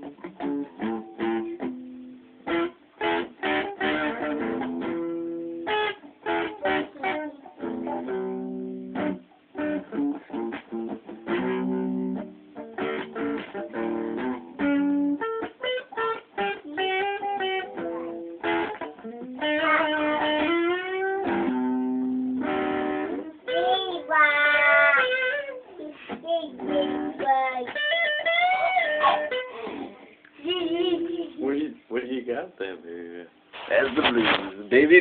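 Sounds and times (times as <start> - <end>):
blues electric guitar: 0.0 - 31.4.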